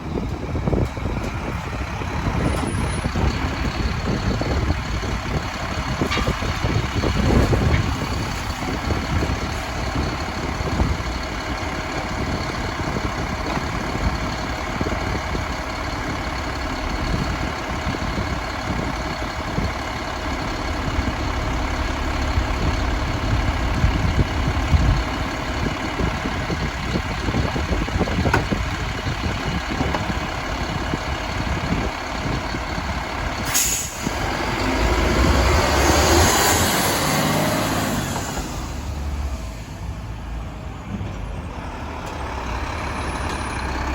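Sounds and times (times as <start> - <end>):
truck diesel engine and hydraulics: 0.0 - 43.9.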